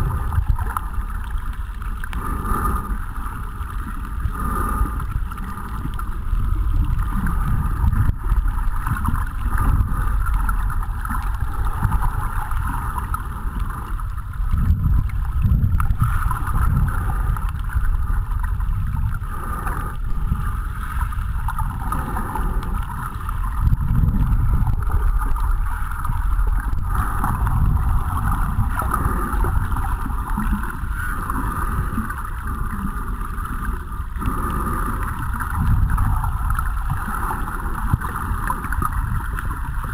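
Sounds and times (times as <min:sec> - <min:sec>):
muffled underwater rumble and hiss: 0:00.0 - 0:39.9.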